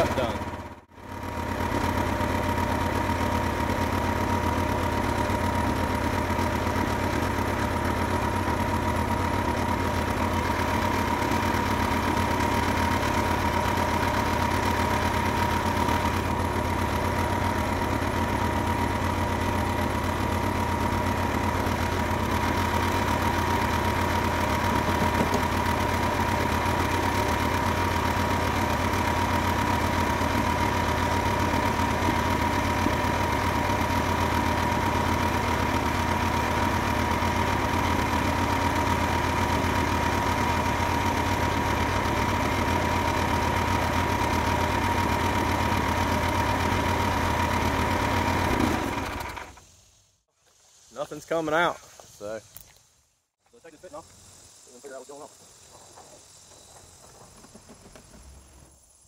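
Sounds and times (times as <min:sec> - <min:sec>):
gasoline engine idling: 0:00.0 - 0:49.7.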